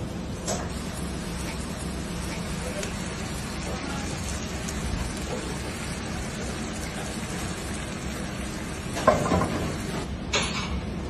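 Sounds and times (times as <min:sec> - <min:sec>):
rice sizzling and bubbling in pan: 0:00.2 - 0:10.1.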